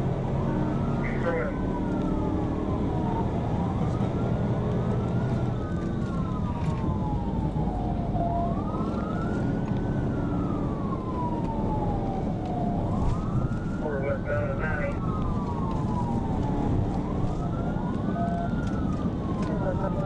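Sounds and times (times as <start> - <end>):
car engine rumble: 0.0 - 20.0
police siren wailing: 0.0 - 20.0
road noise: 0.0 - 20.0.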